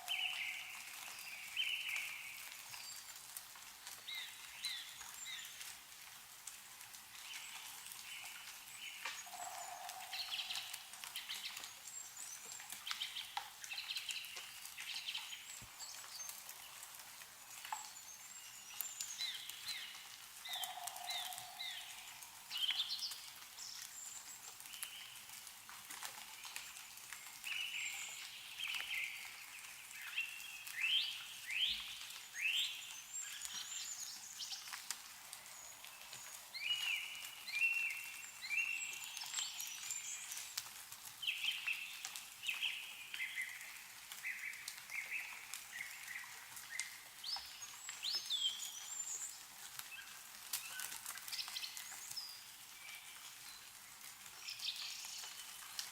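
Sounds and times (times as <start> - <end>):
small birds chirping: 0.0 - 5.9, 7.1 - 55.9.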